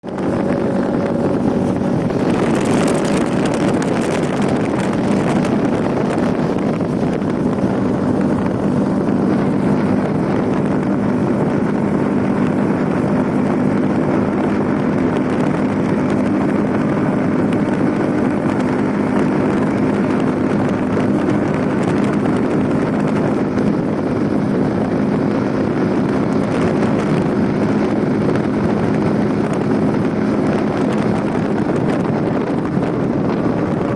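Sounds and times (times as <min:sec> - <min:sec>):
engine running steadily: 0:00.0 - 0:33.9
wind on microphone: 0:00.0 - 0:33.9.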